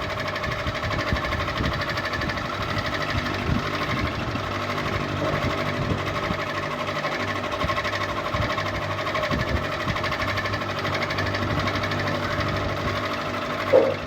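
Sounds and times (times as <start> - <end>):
ceiling fan humming and rattling: 0.0 - 14.0.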